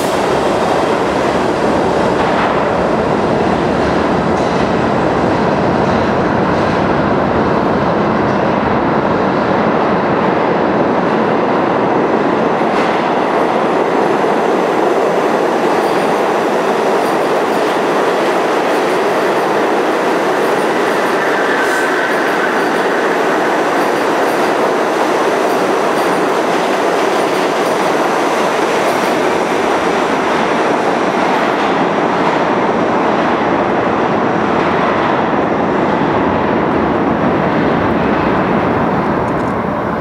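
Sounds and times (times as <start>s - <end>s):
subway train passing: 0.0s - 40.0s.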